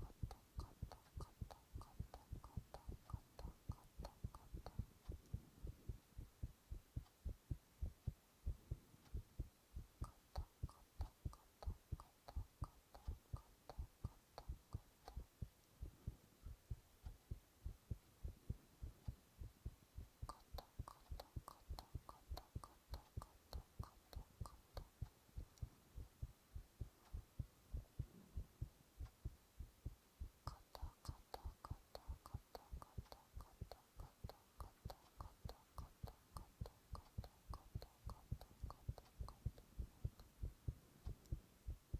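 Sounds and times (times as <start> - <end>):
heartbeat thumps: 0.0 - 33.8, 35.8 - 41.9.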